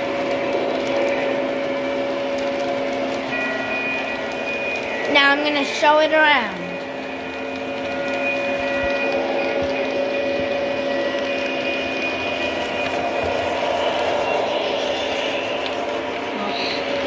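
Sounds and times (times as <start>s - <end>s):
electric motor whine and hum: 0.0s - 5.1s, 6.7s - 17.0s
model train wheels rolling: 0.0s - 17.0s.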